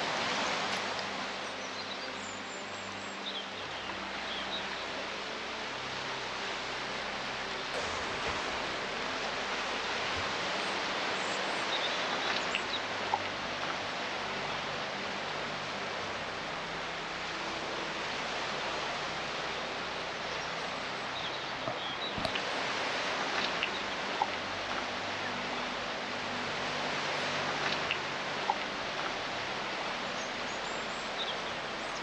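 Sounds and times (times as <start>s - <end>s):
outdoor ambient hiss: 0.0s - 32.0s.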